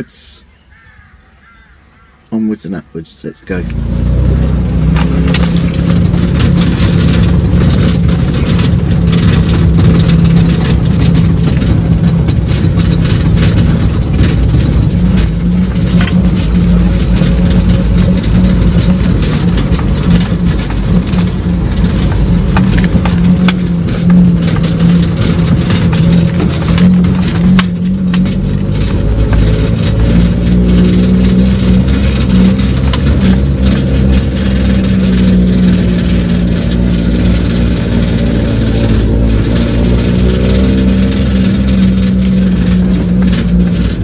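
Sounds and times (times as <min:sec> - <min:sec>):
truck engine and road rumble: 0:00.0 - 0:44.0
cab knocks and rattles: 0:03.5 - 0:44.0.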